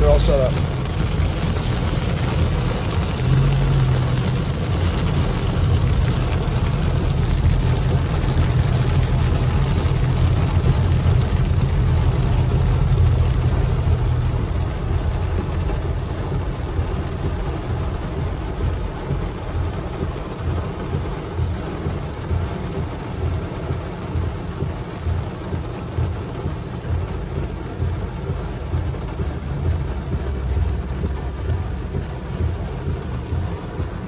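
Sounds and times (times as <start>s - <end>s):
car driving on wet road: 0.0s - 34.0s
heavy rain on car windshield: 0.0s - 34.0s.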